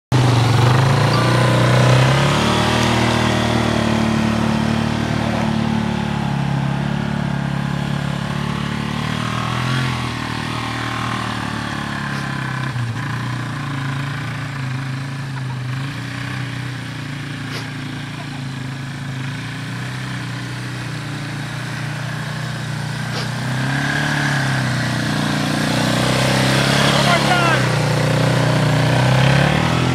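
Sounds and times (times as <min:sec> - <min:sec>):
atv engine revving: 0:00.1 - 0:29.9.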